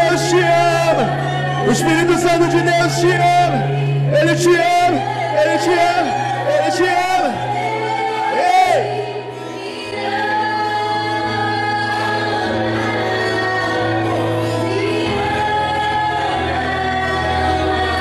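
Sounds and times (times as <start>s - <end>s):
voices singing worship music: 0.0s - 18.0s.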